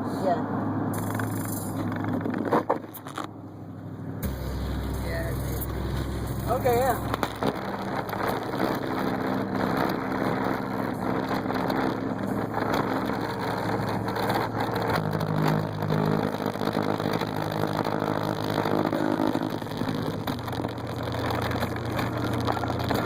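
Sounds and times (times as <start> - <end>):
bass-heavy music on car stereo: 1.0 - 3.4, 4.2 - 23.0.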